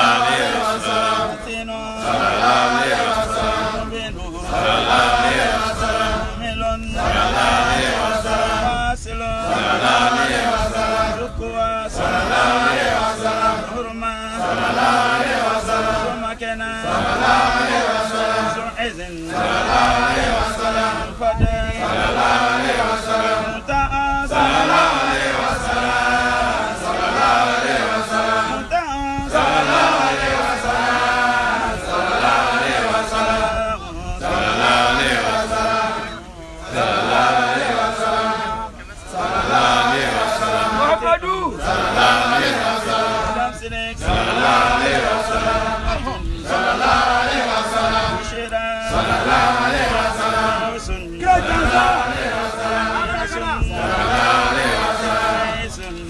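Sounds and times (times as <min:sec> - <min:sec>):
men chanting: 0:00.0 - 0:56.0.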